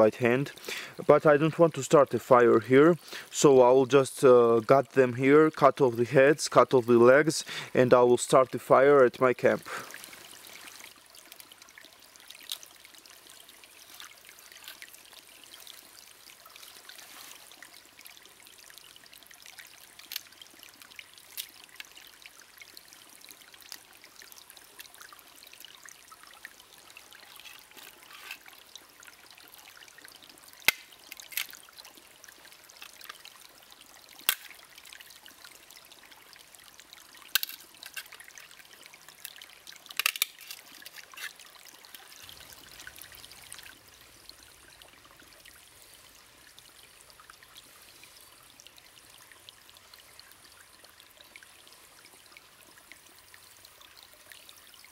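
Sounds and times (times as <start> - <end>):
stream trickling: 0.0 - 54.9.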